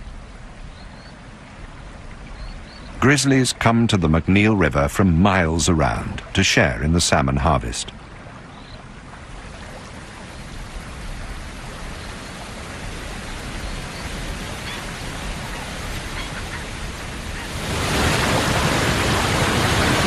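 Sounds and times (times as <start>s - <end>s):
rushing river water: 0.0s - 20.0s.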